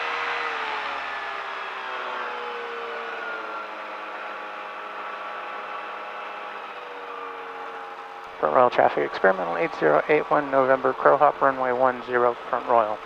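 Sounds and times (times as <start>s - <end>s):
light aircraft engine running: 0.0s - 13.0s.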